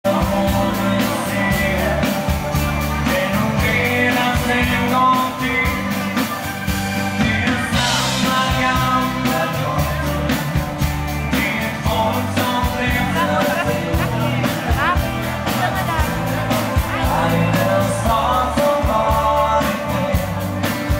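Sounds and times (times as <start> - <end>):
band playing live: 0.0 - 20.9
person singing: 0.0 - 20.9
steady drum beat: 0.0 - 20.9.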